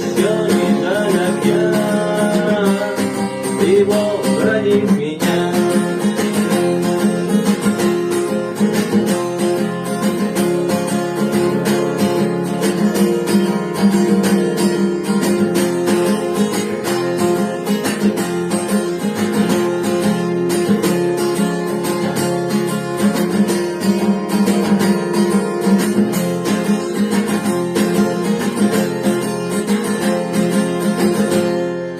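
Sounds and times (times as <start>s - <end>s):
acoustic guitar strumming: 0.0s - 31.9s.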